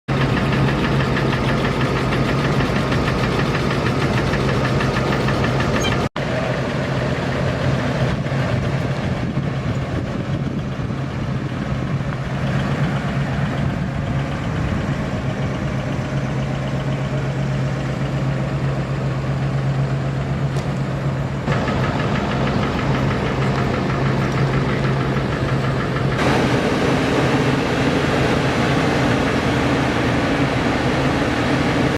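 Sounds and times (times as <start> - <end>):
truck engine low hum: 0.1 - 31.9.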